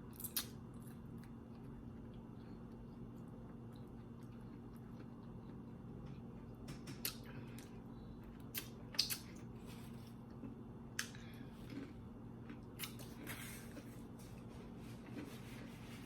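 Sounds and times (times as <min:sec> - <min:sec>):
crunchy chewing: 0:00.1 - 0:16.0.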